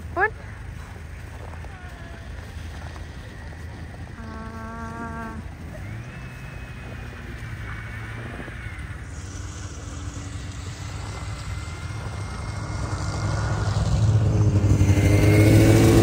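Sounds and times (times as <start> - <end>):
snowmobile engine approaching: 0.0 - 16.0.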